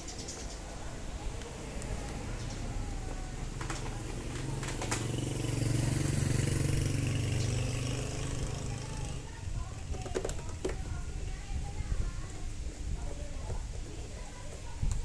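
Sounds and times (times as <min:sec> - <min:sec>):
vehicle engine hum: 0:00.0 - 0:12.7.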